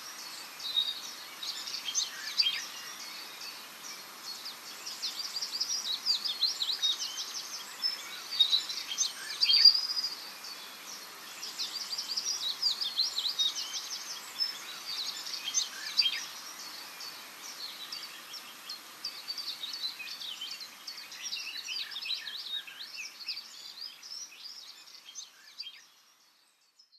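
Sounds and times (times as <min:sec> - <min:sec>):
faint outdoor hiss: 0:00.0 - 0:26.9
songbirds chirping: 0:00.0 - 0:26.9.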